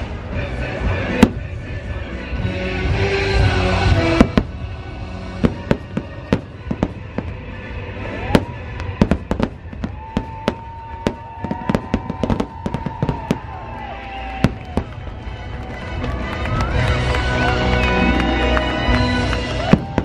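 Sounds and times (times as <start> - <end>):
fireworks exploding: 0.9 - 2.0, 2.8 - 20.0.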